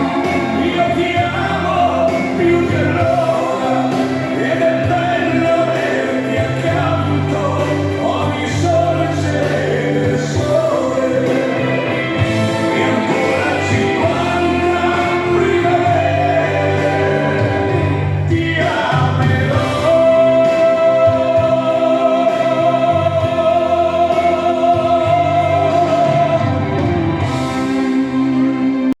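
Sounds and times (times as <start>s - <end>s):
dance music with singing: 0.0s - 29.0s.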